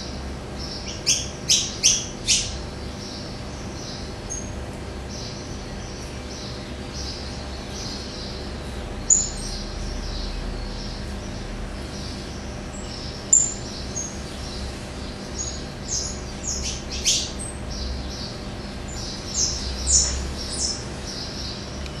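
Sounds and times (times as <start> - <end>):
steady low hum: 0.0 - 22.0
songbird chirping: 0.6 - 22.0.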